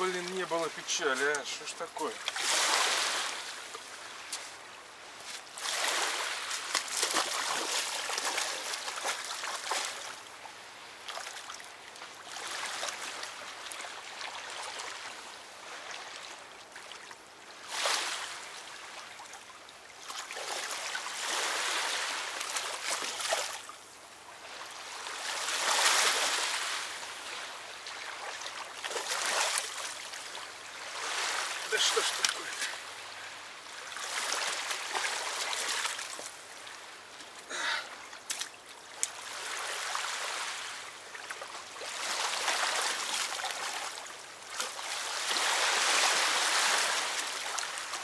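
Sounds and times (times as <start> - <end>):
river water lapping at bank: 0.0 - 48.0.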